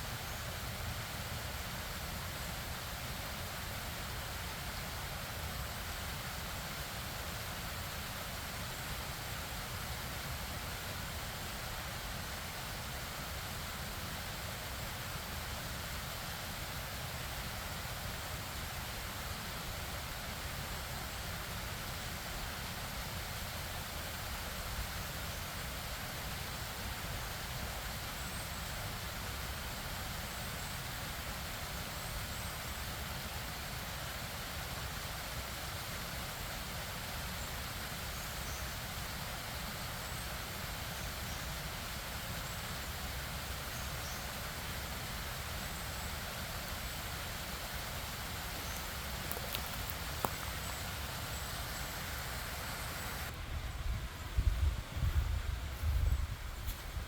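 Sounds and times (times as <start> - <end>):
waterfall water rushing: 0.3 - 53.4.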